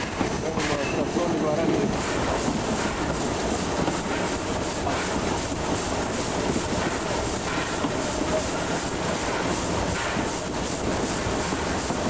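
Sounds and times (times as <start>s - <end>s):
steam locomotive exhaust chuffing: 0.0s - 12.0s.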